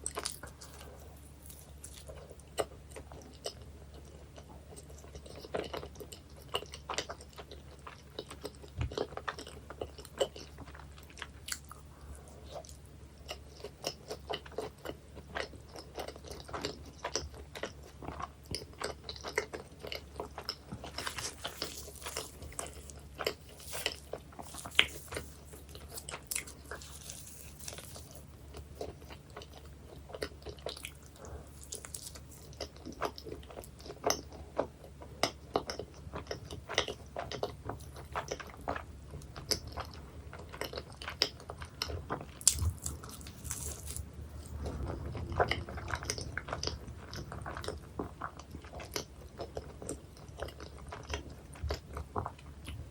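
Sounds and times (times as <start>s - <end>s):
pastry crust crunching: 0.0s - 4.1s, 6.8s - 52.9s
chewing: 0.0s - 52.9s.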